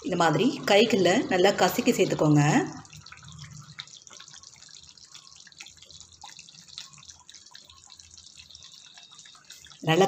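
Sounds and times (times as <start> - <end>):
gravy bubbling and popping: 0.0 - 10.0.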